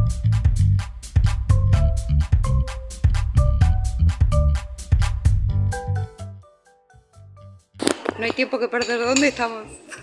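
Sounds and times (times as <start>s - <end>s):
background music with beat: 0.0s - 8.1s.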